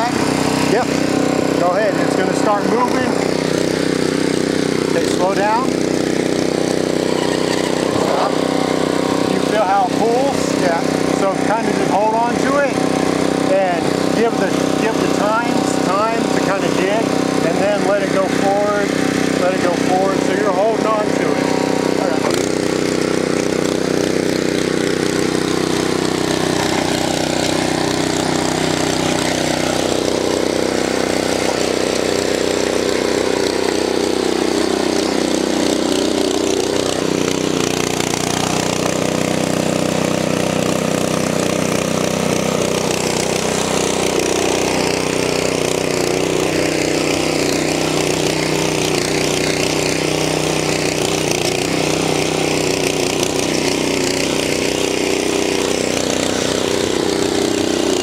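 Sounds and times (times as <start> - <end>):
tiller engine running: 0.0 - 58.0.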